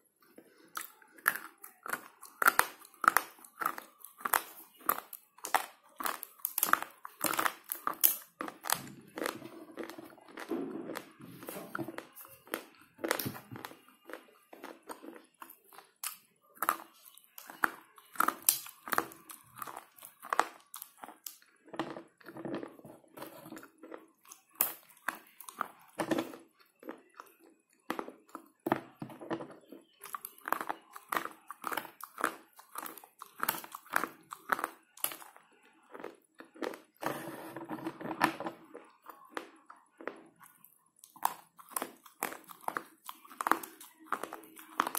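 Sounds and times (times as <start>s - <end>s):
slate pencils being chewed: 0.2s - 37.3s, 38.2s - 44.9s.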